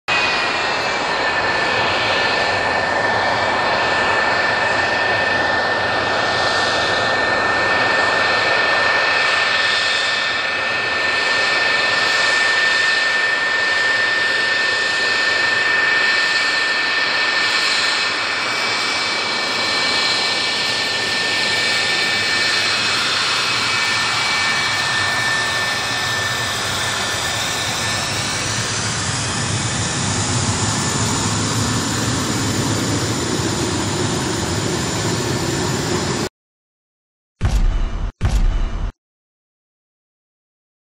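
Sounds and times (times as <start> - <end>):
jet engines whining: 0.1 - 36.3.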